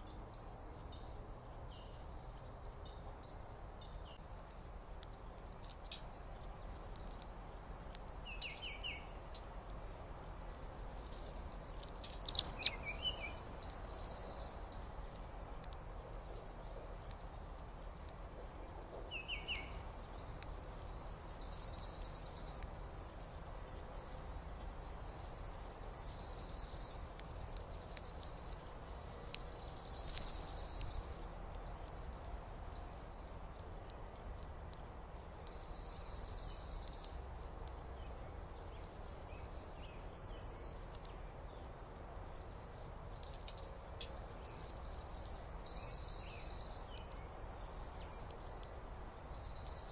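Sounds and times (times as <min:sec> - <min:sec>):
outdoor background noise: 0:00.0 - 0:49.9
small birds chirping: 0:00.0 - 0:49.9.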